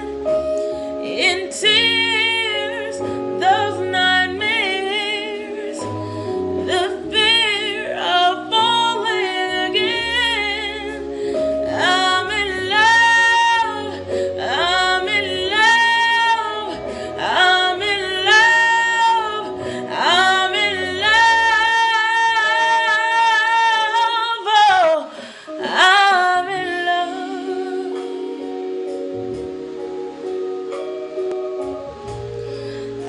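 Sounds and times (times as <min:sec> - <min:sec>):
instrumental backing track: 0:00.0 - 0:33.0
woman singing: 0:00.9 - 0:28.7.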